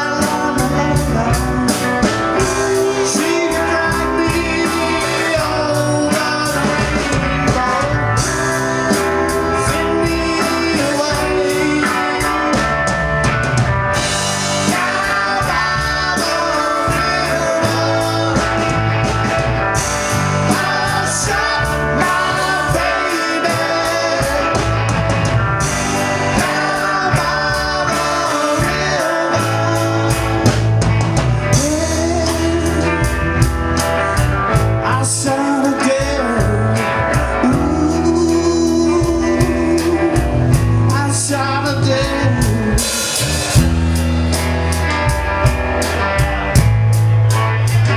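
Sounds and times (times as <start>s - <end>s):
bass guitar: 0.0s - 47.9s
drum kit: 0.0s - 47.9s
electric guitar: 0.0s - 47.9s
live blues band playing: 0.0s - 47.9s.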